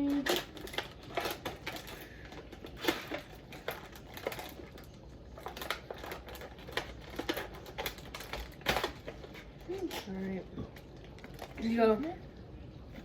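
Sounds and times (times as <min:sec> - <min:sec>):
plastic food packaging crinkling: 0:00.0 - 0:12.2.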